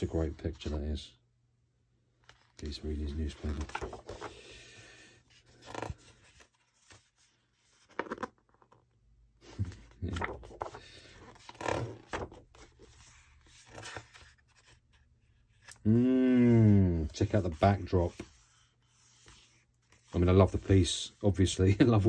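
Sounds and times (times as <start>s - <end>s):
book pages rustling: 2.2s - 4.5s, 5.2s - 15.8s, 17.1s - 22.0s.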